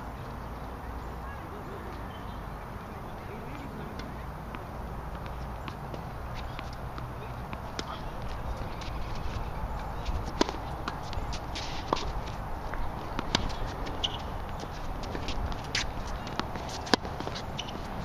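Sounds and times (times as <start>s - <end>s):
footsteps on court: 3.5s - 18.0s.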